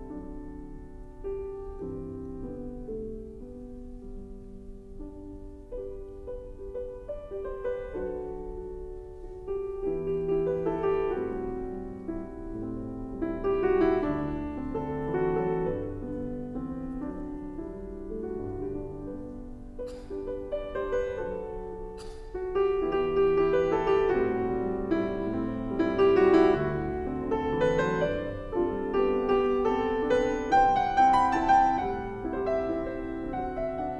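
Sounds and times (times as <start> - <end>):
piano melody: 0.0 - 33.9.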